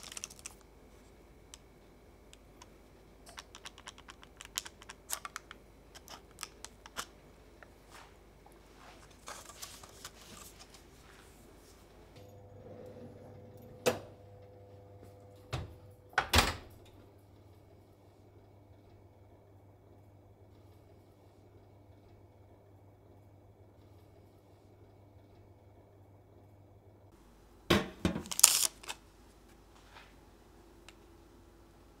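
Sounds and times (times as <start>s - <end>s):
oven hum: 0.0s - 32.0s.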